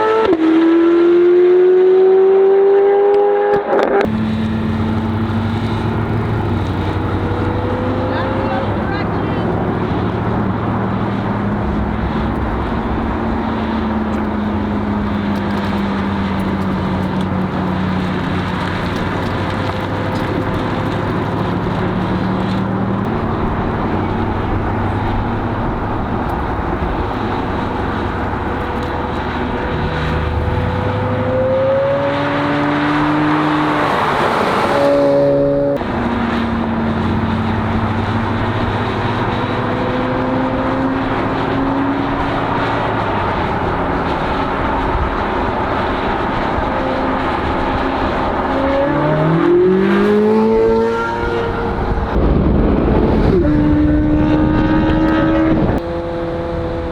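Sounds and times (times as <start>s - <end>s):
sports car engine on track: 0.0s - 56.9s.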